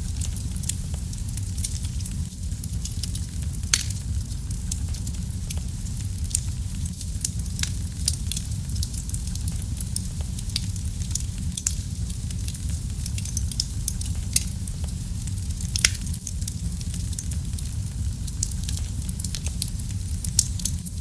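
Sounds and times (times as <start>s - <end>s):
fireplace fire crackling: 0.0s - 21.0s.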